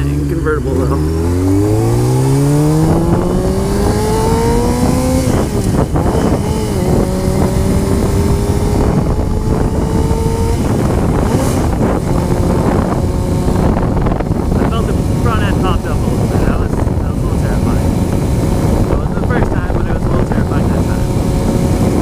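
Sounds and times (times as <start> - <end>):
motorcycle engine accelerating: 0.0 - 22.0
wind rushing over microphone: 0.0 - 22.0.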